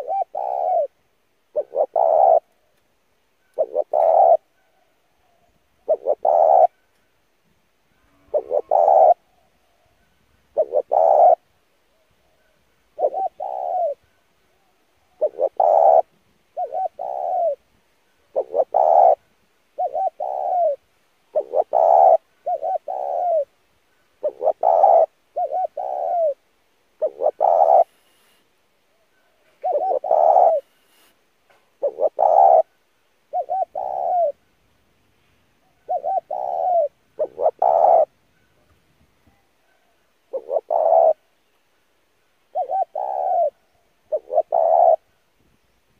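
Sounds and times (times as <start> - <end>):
dove cooing: 0.0 - 2.5, 3.5 - 6.8, 8.2 - 17.7, 18.3 - 23.5, 24.2 - 26.4, 27.0 - 31.1, 31.8 - 34.4, 35.6 - 38.2, 39.2 - 41.3, 42.5 - 45.2.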